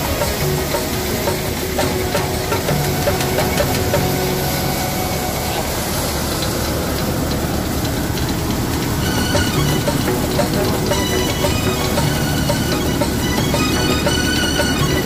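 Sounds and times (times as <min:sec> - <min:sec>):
thresher machine drone: 0:00.0 - 0:15.0
tractor diesel engine: 0:00.0 - 0:15.0.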